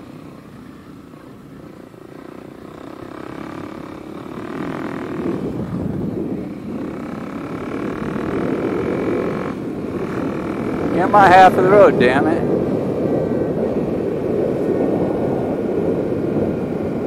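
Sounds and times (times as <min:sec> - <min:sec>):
motorcycle engine riding: 0:00.0 - 0:17.0.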